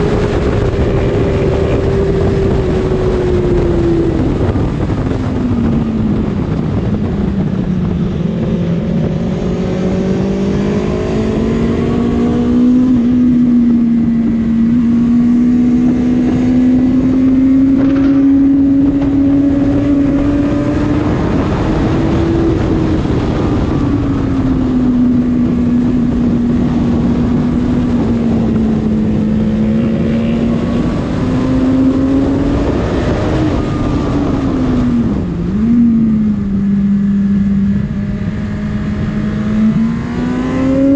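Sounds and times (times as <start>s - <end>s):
motorcycle engine revving hard: 0.0s - 40.9s.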